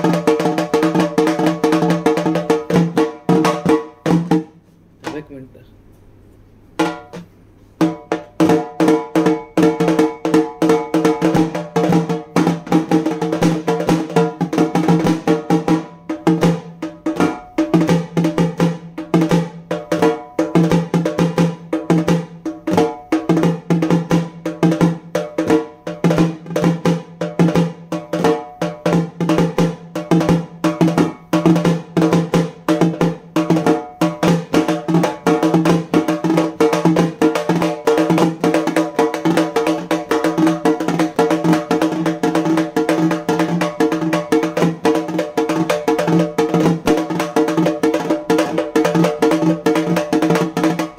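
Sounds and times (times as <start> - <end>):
frame drum beaten with sticks: 0.0 - 5.4, 6.8 - 50.9.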